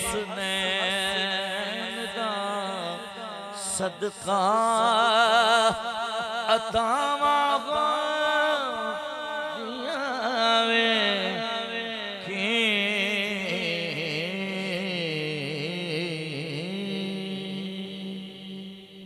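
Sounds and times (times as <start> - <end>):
man singing unaccompanied: 0.0 - 19.0.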